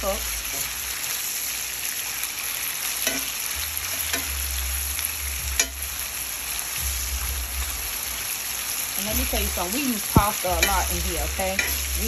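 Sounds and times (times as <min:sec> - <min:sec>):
sausage sizzling in oil: 0:00.0 - 0:12.0.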